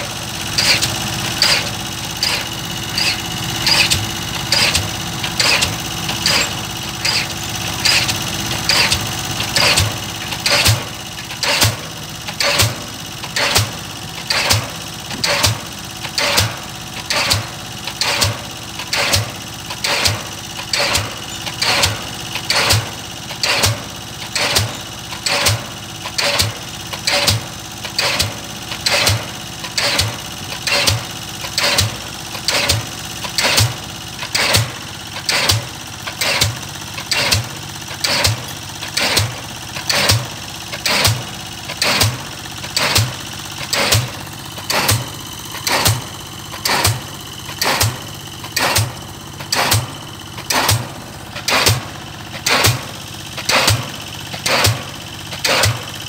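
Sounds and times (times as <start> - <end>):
crane engine hum: 0.0 - 56.0
pile hammer pounding concrete: 0.0 - 56.0.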